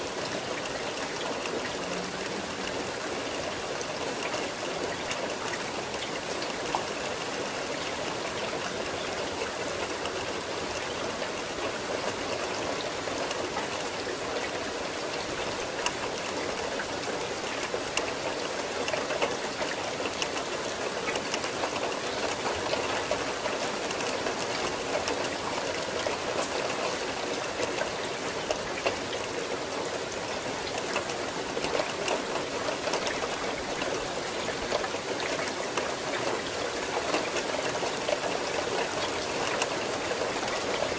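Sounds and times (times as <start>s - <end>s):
raindrops ticking: 0.0s - 40.9s
steady rain hiss: 0.0s - 40.9s.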